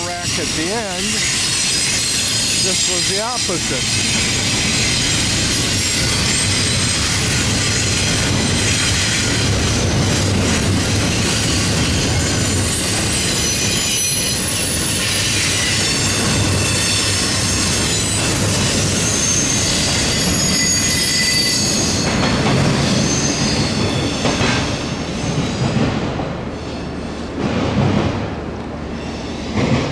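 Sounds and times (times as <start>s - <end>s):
steel wheels squealing on rails: 0.0s - 27.6s, 28.6s - 29.9s
freight train rolling past: 0.0s - 29.9s.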